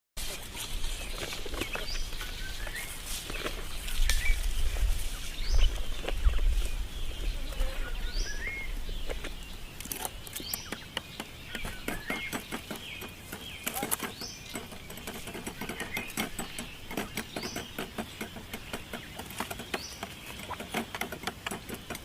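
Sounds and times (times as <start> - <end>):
francolins calling: 0.9 - 22.0.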